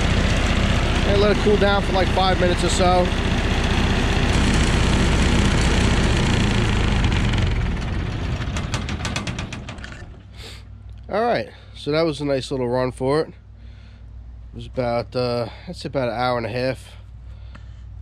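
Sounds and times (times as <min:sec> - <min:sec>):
diesel generator running: 0:00.0 - 0:18.0.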